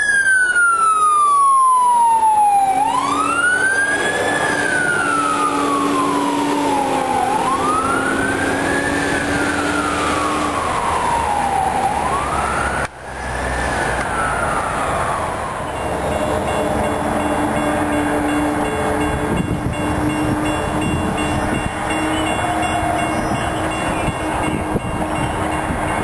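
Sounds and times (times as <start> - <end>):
siren wailing: 0.0 - 26.0.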